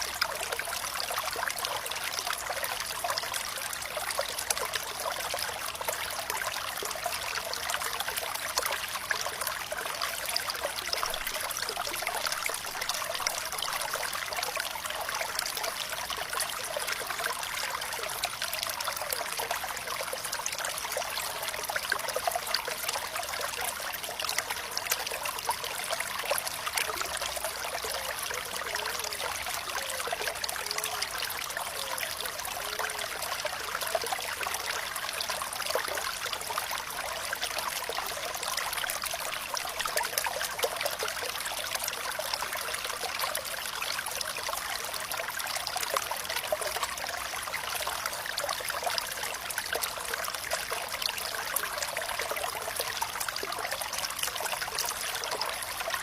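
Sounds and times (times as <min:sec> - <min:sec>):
water gurgling: 0:00.0 - 0:56.0
water trickling over stones: 0:00.0 - 0:56.0.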